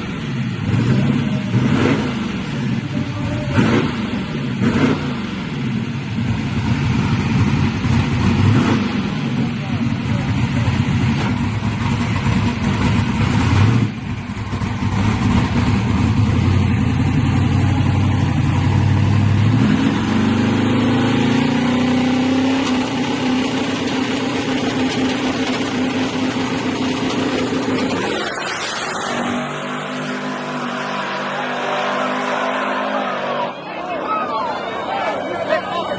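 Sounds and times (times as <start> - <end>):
car engine rumbling: 0.0 - 35.9.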